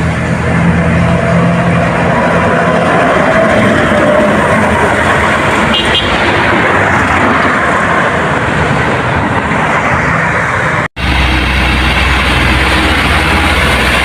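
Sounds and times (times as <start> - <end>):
road vehicle noise: 0.0 - 14.0.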